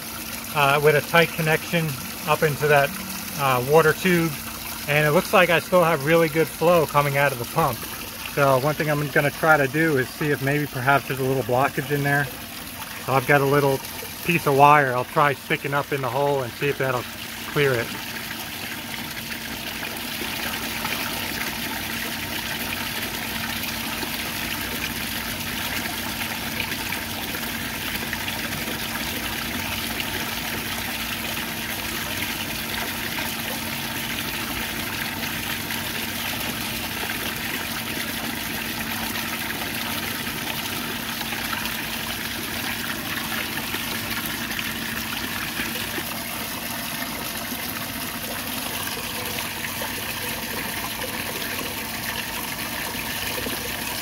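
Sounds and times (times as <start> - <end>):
pump humming: 0.0 - 54.0
water pouring into tub: 0.0 - 54.0.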